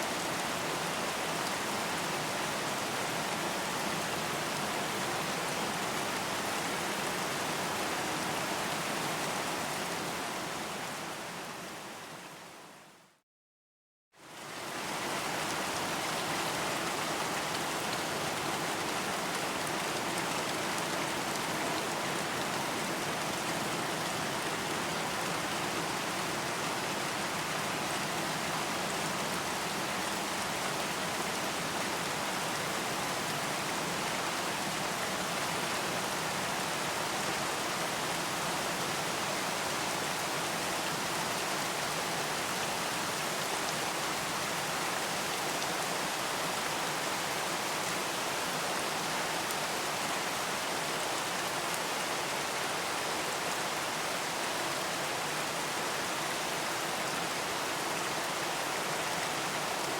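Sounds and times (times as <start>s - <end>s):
steady rain falling: 0.0s - 13.2s, 14.2s - 59.9s.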